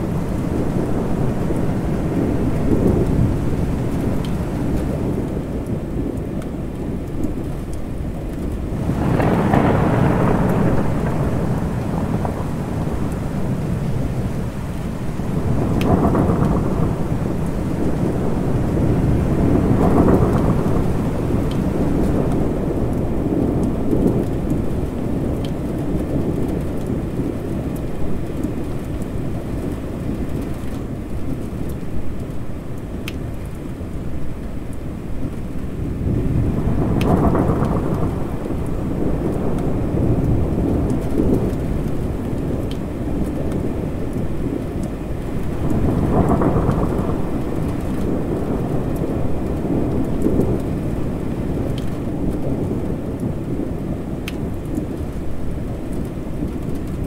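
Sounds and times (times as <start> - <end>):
rolling thunder: 0.0 - 31.9, 35.1 - 57.0
steady rain: 0.0 - 57.0.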